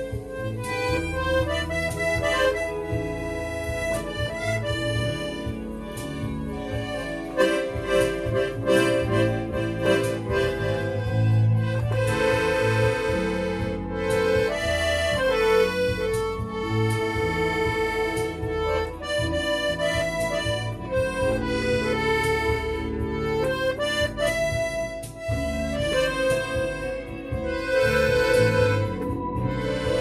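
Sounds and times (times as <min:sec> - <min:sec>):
accordion playing: 0:00.0 - 0:30.0.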